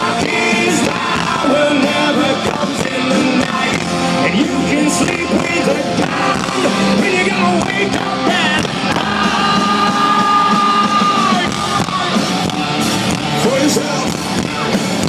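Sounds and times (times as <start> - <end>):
hard rock band playing live: 0.0 - 15.0.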